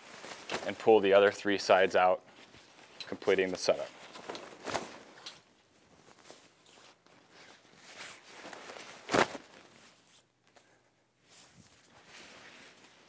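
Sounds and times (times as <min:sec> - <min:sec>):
fabric rustling: 0:00.0 - 0:13.0.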